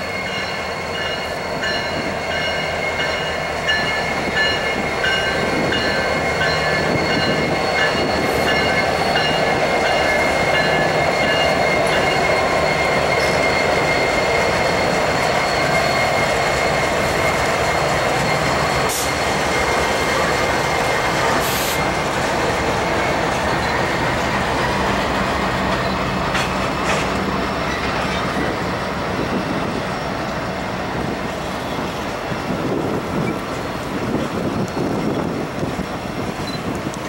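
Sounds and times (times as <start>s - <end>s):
high wheel squeal: 0.0s - 35.4s
train wheels rumbling on rail: 0.0s - 37.0s.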